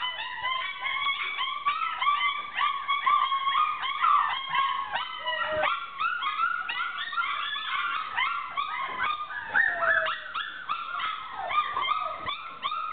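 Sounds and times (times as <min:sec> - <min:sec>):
puppies howling and yipping: 0:00.0 - 0:12.9
puppy falling wail: 0:00.0 - 0:12.9.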